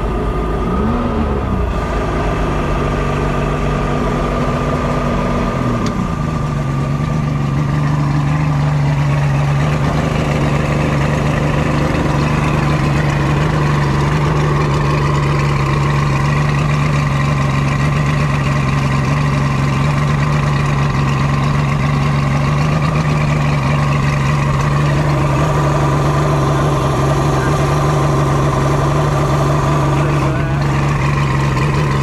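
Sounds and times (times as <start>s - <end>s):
speedboat engine running: 0.0s - 32.0s.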